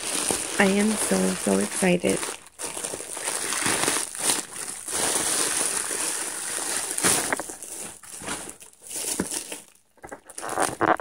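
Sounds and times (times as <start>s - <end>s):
plastic mailer bag crinkling: 0.0s - 11.0s.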